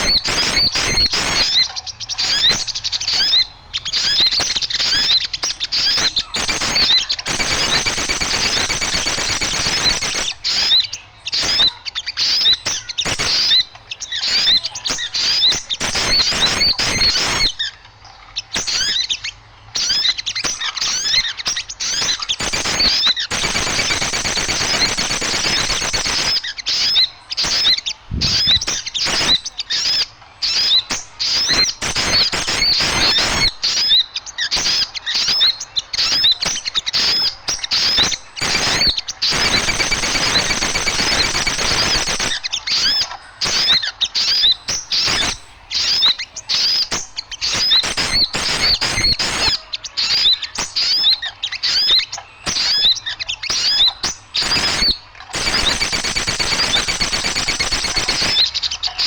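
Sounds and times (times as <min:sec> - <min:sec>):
flock of small birds chattering: 0:00.0 - 0:59.0.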